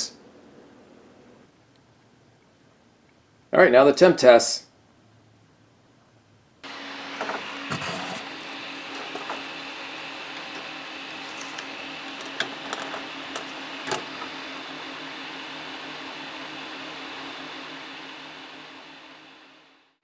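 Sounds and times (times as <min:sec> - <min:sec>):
cooler fans whirring: 0:00.0 - 0:03.0, 0:05.2 - 0:20.0.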